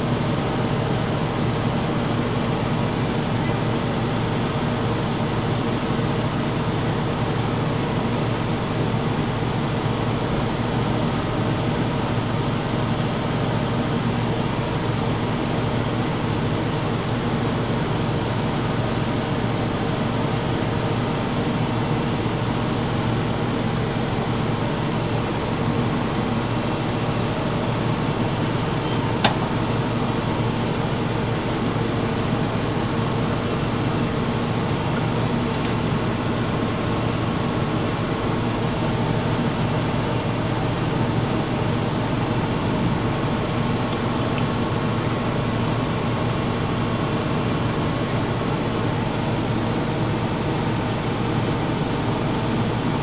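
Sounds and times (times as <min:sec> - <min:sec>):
machine hum: 0:00.0 - 0:53.0.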